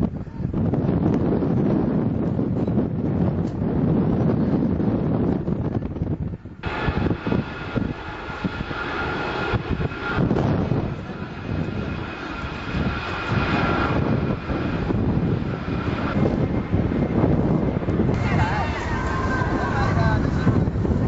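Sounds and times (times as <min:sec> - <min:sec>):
jet engines whining and rumbling: 0:00.0 - 0:21.0.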